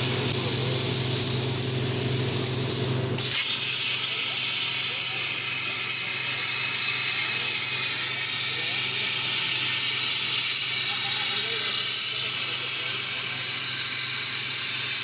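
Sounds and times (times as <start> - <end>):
plasma cutting torch hissing: 0.0 - 15.0.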